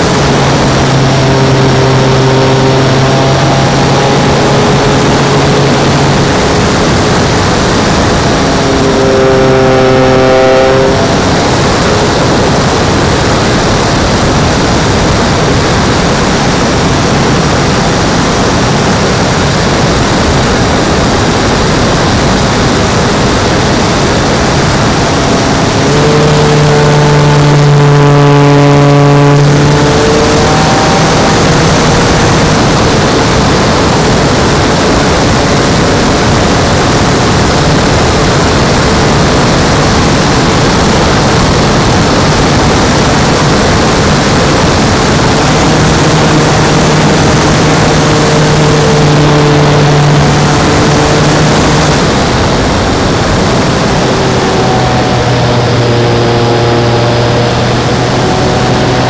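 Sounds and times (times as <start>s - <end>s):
electric motor and propeller hum: 0.0s - 59.0s
wind rushing on microphone: 0.0s - 59.0s.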